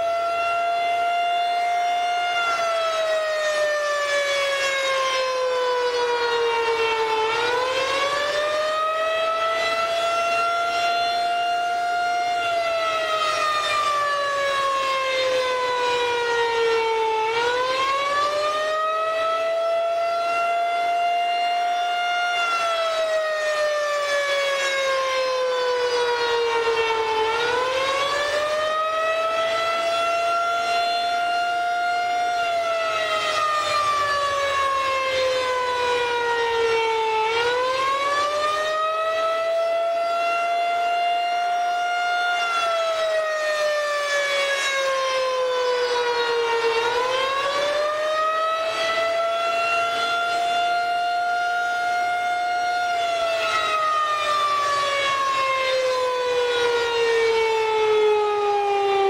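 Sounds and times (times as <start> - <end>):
rotating warning siren: 0.0 - 59.0.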